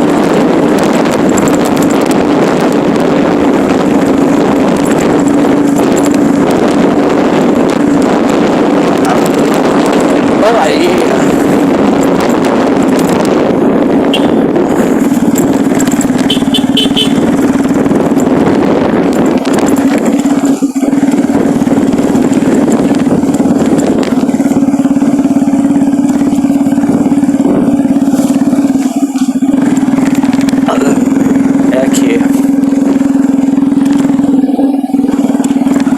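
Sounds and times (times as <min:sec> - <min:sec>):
road and wind noise: 0:00.0 - 0:35.9
vehicle engine droning: 0:00.0 - 0:35.9.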